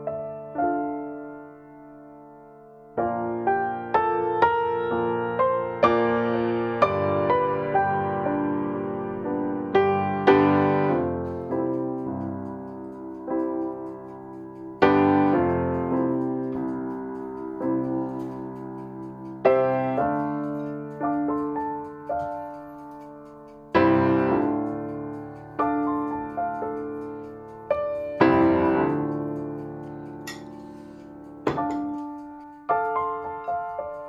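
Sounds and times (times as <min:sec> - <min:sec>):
slow solo piano music: 0:00.0 - 0:34.0.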